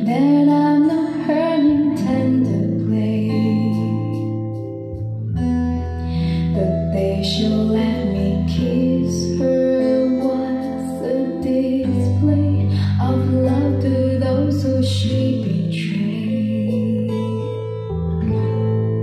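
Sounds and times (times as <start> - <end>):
female vocals: 0.0 - 4.5, 6.0 - 17.6
guitar: 0.0 - 19.0
steady bass notes: 0.0 - 19.0.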